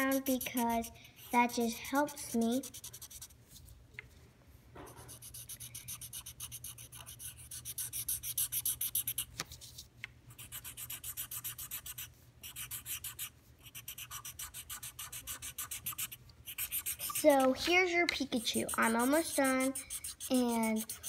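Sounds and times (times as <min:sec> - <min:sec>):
marker scribbling on paper: 0:00.0 - 0:03.4, 0:05.0 - 0:09.3, 0:10.3 - 0:21.0.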